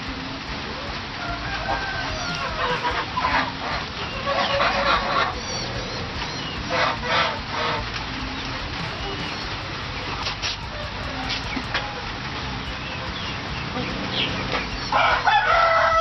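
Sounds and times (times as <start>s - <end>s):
fowl calling: 0.1s - 16.0s.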